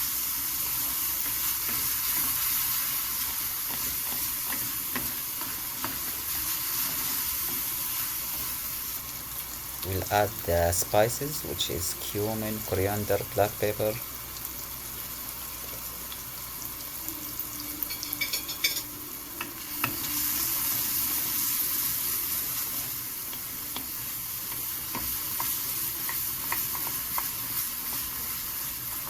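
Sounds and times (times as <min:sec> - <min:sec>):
vegetables sizzling in hot oil: 0:00.0 - 0:29.0.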